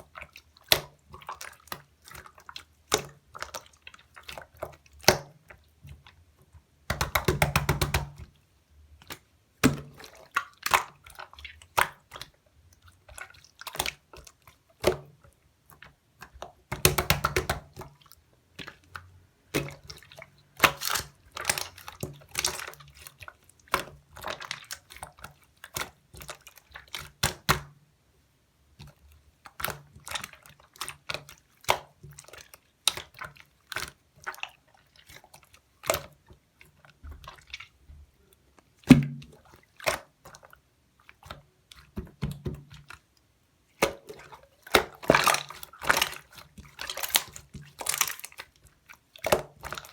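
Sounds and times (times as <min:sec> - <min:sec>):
slime squishing: 0:00.0 - 0:27.7, 0:28.7 - 0:49.9.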